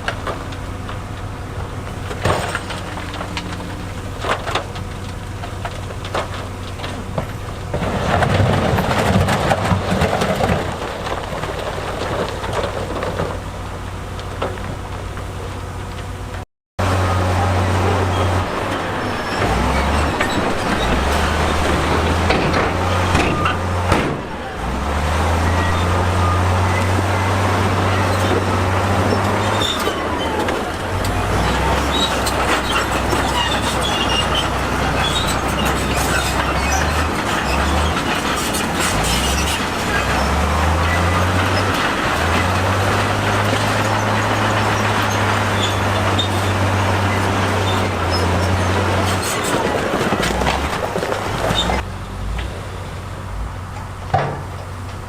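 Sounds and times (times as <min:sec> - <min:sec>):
large diesel engine working: 0:00.0 - 0:55.0.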